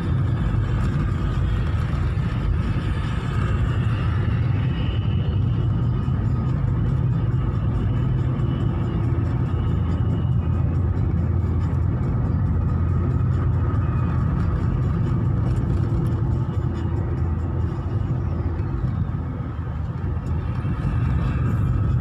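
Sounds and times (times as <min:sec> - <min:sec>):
car engine from inside cabin: 0:00.0 - 0:22.0.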